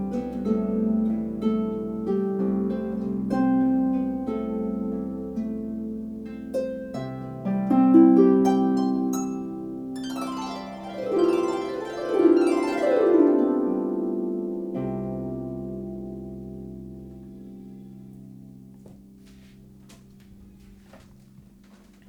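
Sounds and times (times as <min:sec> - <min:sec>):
harp glissandi: 0:00.0 - 0:18.4
harp plucked notes and chords: 0:00.0 - 0:20.3.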